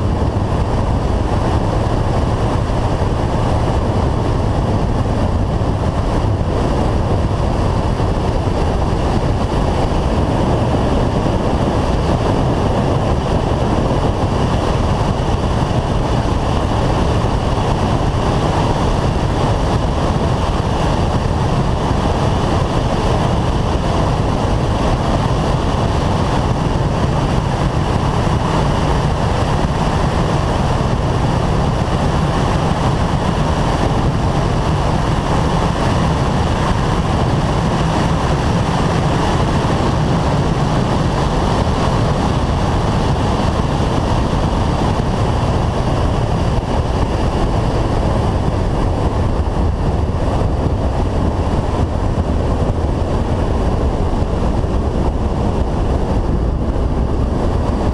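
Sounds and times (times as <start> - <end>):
wind rushing over camera: 0.0 - 57.9.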